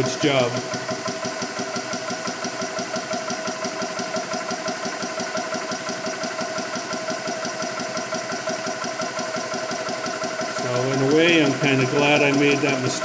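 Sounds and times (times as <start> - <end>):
air compressor pumping: 0.0 - 13.0.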